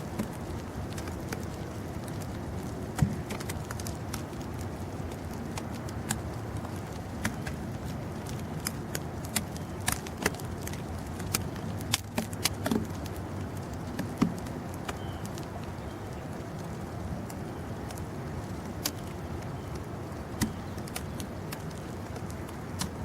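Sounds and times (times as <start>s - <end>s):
low rumble of snowstorm: 0.0s - 23.0s
sharp ticks and clicks: 0.0s - 23.0s.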